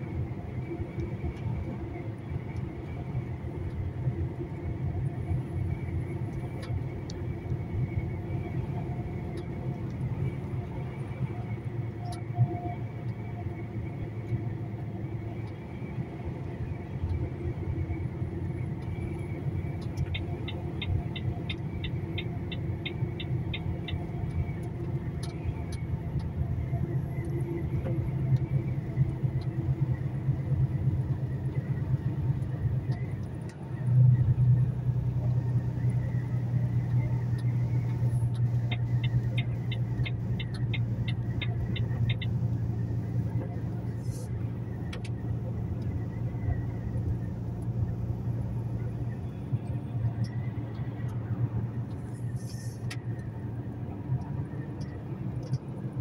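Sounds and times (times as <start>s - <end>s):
lorry engine and road rumble: 0.0s - 56.0s.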